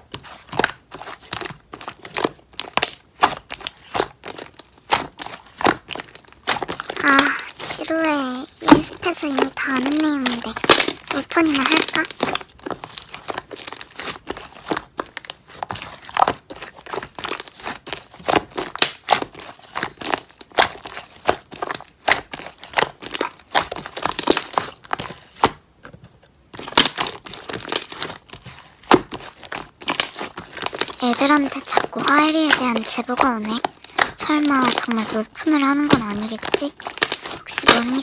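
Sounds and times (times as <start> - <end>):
slime crackling and popping: 0.0 - 25.6, 26.5 - 38.0.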